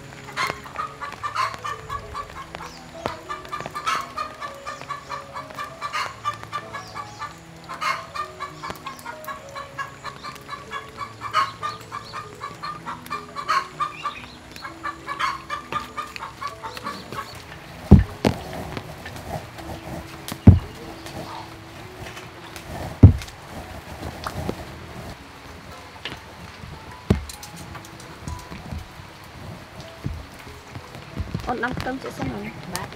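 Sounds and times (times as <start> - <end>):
chickens clucking: 0.0 - 32.9
soft background music: 0.0 - 32.9.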